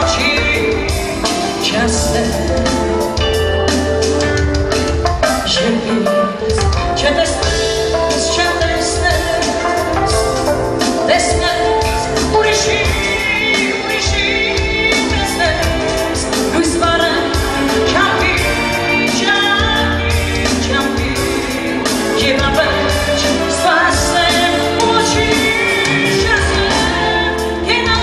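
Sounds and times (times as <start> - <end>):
woman singing into microphone: 0.0 - 3.2, 5.2 - 28.0.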